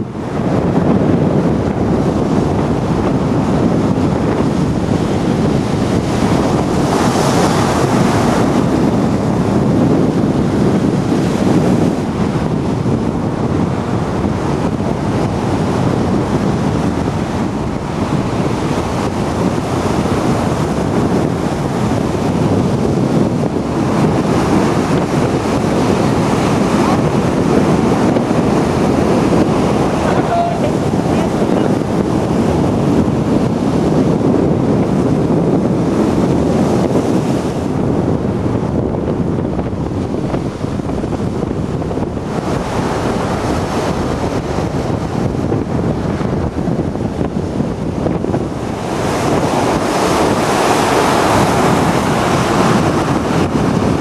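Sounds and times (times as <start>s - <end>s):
strong wind on microphone: 0.0s - 54.0s
surf breaking on beach: 0.0s - 54.0s.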